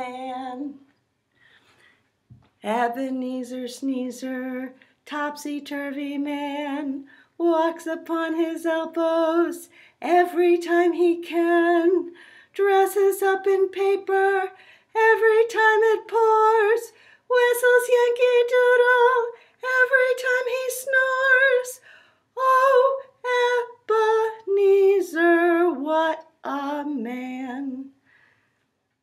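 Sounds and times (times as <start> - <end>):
woman singing unaccompanied: 0.0 - 0.9, 2.6 - 21.8, 22.4 - 28.0.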